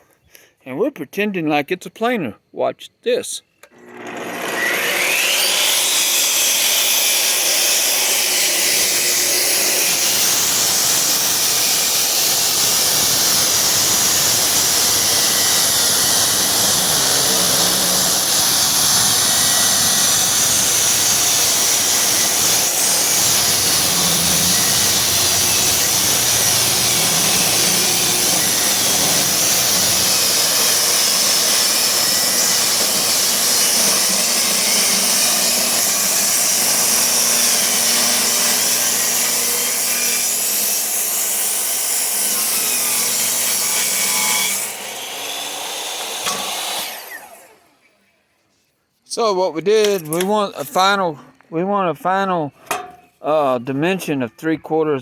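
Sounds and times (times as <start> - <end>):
table saw ripping wood: 3.7 - 47.8.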